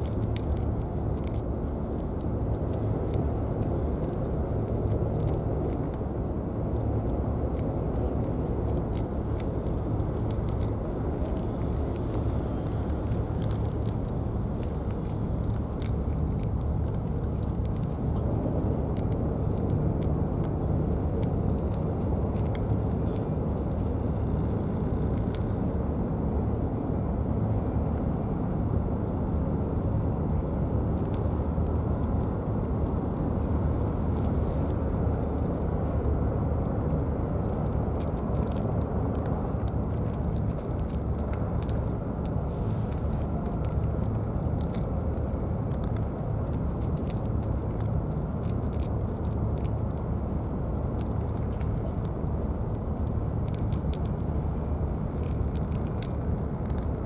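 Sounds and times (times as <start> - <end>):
faint scattered clicks: 0.0 - 25.9, 30.9 - 57.0
steady low rumble: 0.0 - 57.0.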